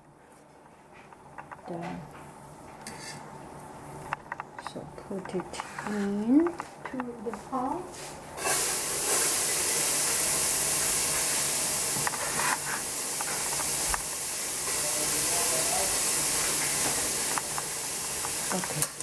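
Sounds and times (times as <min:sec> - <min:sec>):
pepper sizzling in a pot: 0:02.8 - 0:19.0.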